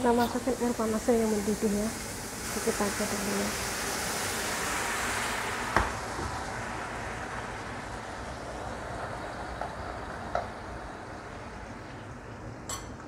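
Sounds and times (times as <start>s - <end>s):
boiling water sizzling in a wok: 0.0s - 13.0s.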